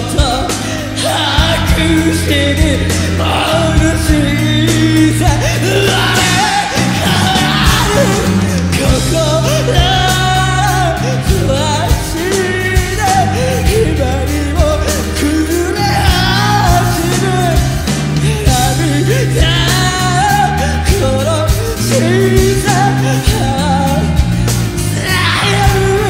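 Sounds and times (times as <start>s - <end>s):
man singing: 0.0s - 26.0s
rock band playing live: 0.0s - 26.0s.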